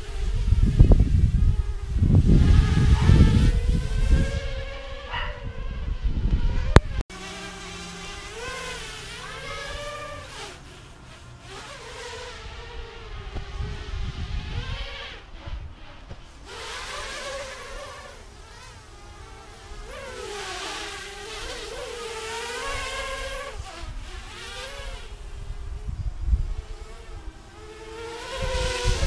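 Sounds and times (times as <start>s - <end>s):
quadcopter motors buzzing: 0.0s - 29.0s.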